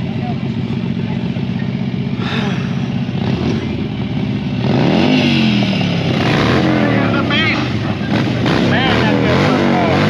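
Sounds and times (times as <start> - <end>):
motorcycle engine idling and revving: 0.0 - 10.0.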